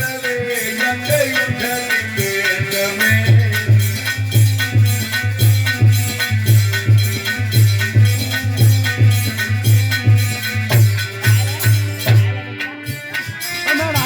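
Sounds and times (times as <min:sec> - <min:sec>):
held melody line: 0:00.0 - 0:14.0
rattling jingling percussion: 0:00.0 - 0:14.0
steady drum beat: 0:00.0 - 0:14.0.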